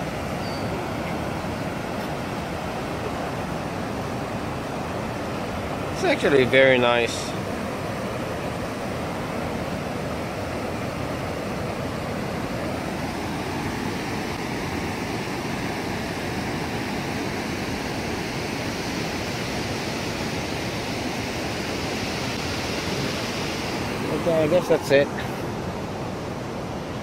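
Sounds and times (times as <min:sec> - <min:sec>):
whitewater rushing over rocks: 0:00.0 - 0:27.0.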